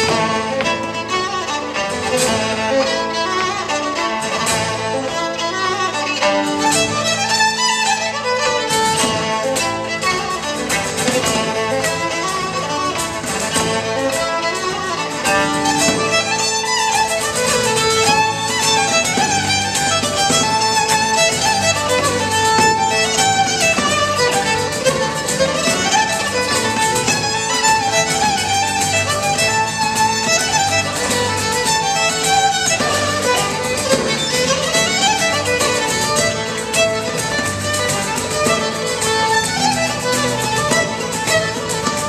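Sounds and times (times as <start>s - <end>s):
band accompaniment with low beat: 0.0s - 42.0s
fiddle playing lively tune: 0.0s - 42.0s.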